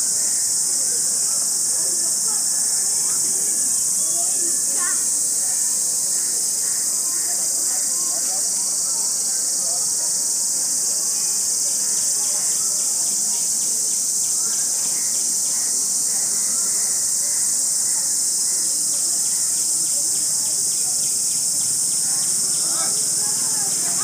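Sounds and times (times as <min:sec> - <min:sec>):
insects droning: 0:00.0 - 0:24.0
pulsing insect call: 0:00.0 - 0:24.0.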